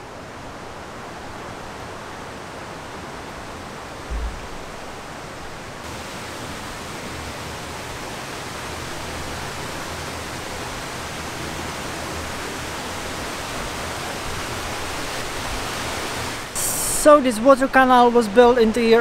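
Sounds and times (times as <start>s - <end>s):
water rushing: 0.1s - 18.1s.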